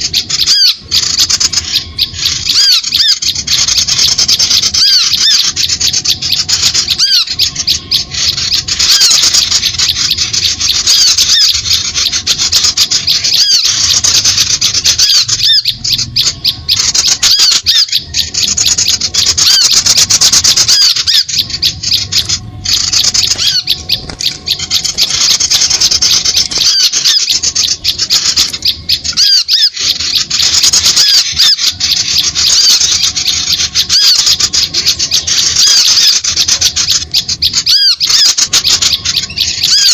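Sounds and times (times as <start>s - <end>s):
small birds chirping and squeaking: 0.0s - 39.9s.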